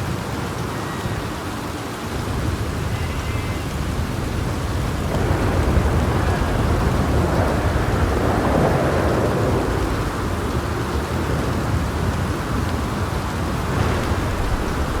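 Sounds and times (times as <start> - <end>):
steady rain: 0.0 - 15.0
rolling thunder: 2.2 - 15.0.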